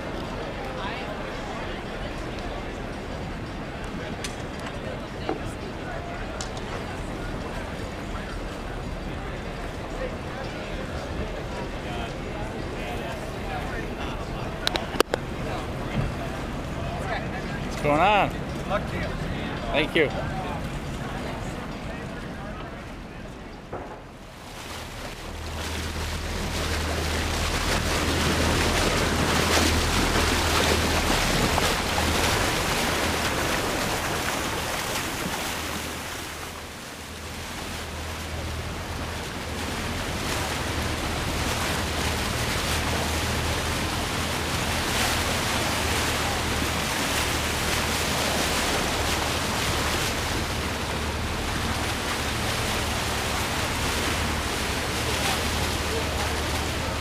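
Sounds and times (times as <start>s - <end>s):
water rushing along hull: 0.0s - 57.0s.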